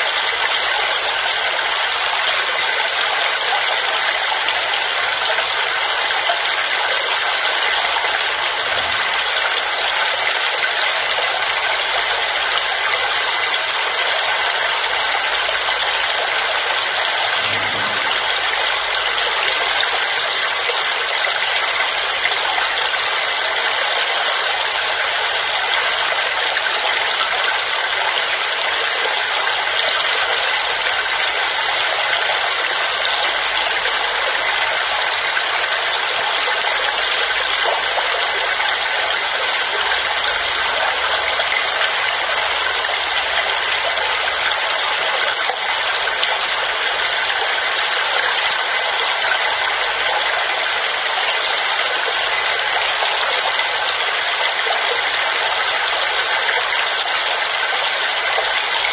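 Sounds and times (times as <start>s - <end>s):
waterfall rushing: 6.6s - 58.9s.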